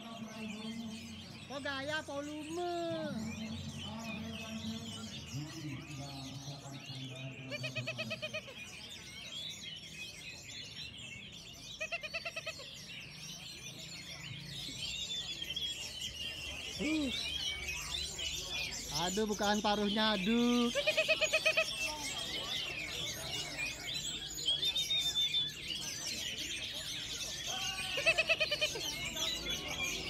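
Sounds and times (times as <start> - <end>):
many birds singing: 0.0 - 30.0
murmur of crowd voices: 0.0 - 30.0.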